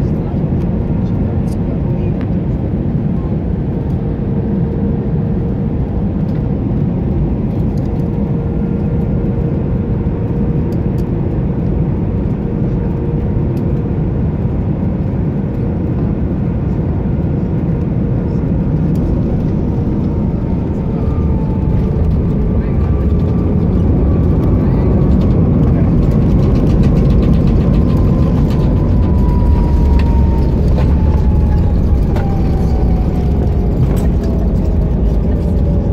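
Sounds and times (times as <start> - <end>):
airliner engines and airflow rushing: 0.0 - 35.9.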